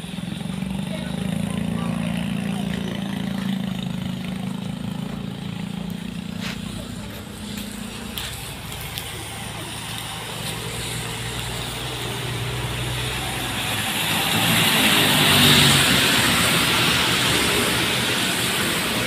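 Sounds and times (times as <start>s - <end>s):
tyres hissing on wet asphalt: 0.0s - 19.0s
vehicle engine running: 0.0s - 19.0s.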